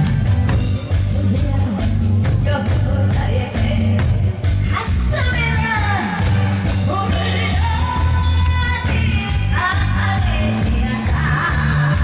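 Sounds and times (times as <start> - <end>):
bass beat backing track: 0.0 - 12.0
person singing: 0.6 - 12.0.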